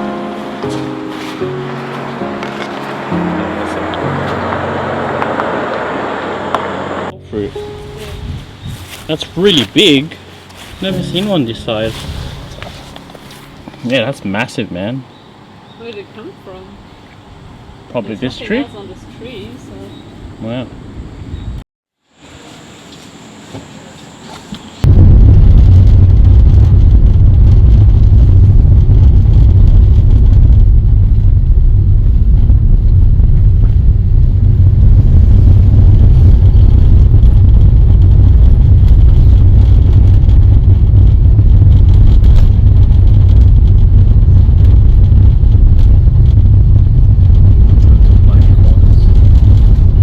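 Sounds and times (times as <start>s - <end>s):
car wind and road noise: 0.0s - 21.6s, 23.3s - 50.0s.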